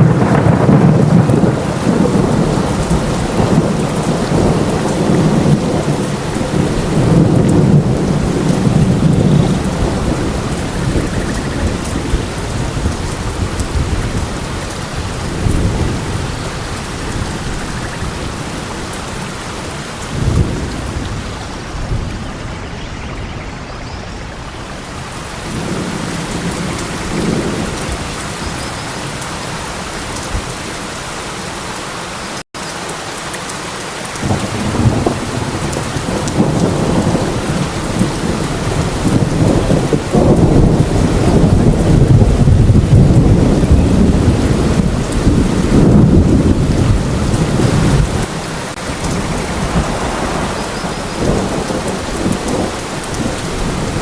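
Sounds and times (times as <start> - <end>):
thunder rumbling: 0.0 - 31.1, 34.2 - 54.0
heavy rain: 0.0 - 54.0.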